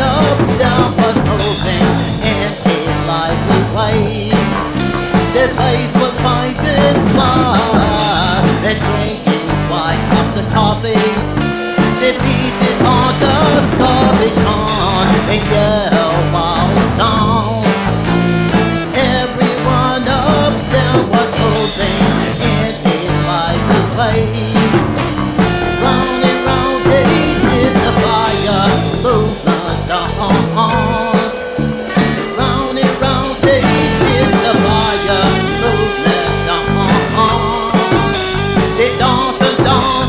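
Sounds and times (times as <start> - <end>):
rock and ska band playing: 0.0 - 40.0.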